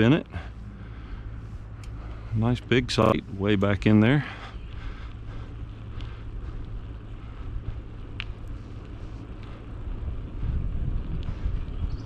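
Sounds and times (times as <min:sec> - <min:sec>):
bicycle road noise: 0:00.0 - 0:12.0
wind buffeting microphone: 0:00.5 - 0:12.0.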